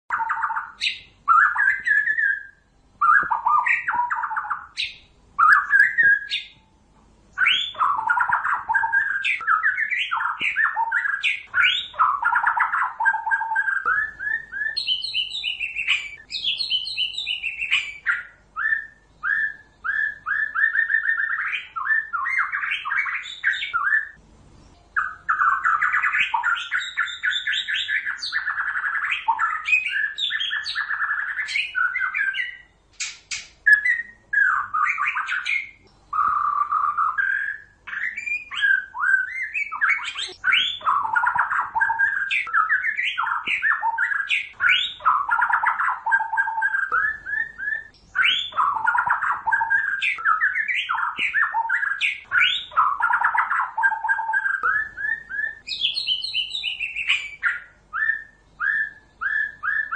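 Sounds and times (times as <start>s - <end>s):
bird singing whistles and chatter: 0.1s - 6.7s, 7.4s - 24.2s, 25.0s - 59.9s.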